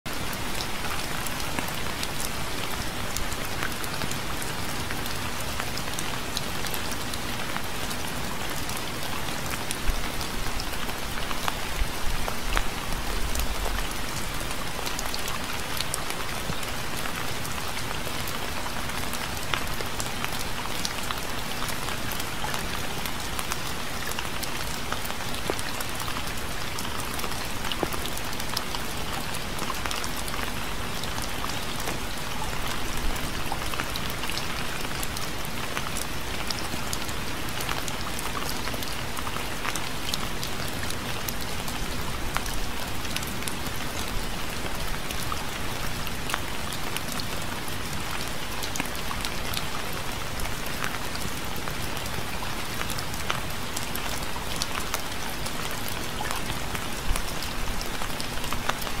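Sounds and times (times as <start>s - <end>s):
rain pattering: 0.1s - 59.0s.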